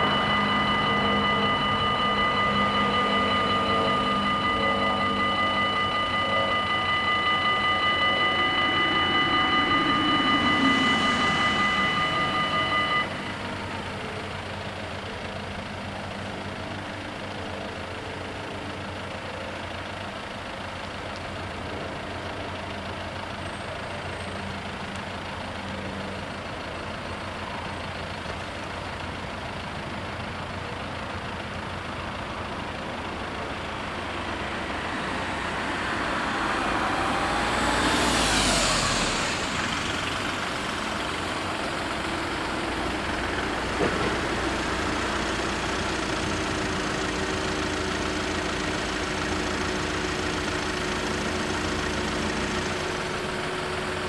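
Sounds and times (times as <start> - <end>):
level crossing bells ringing: 0.0 - 53.9
cars and truck pulling away: 0.0 - 54.0.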